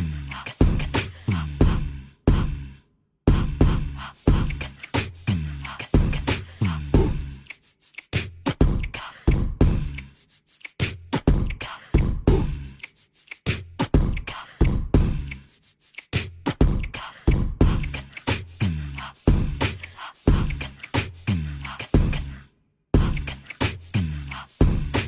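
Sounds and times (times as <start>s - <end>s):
background music with beat: 0.0s - 2.6s, 3.3s - 22.3s, 23.0s - 25.0s.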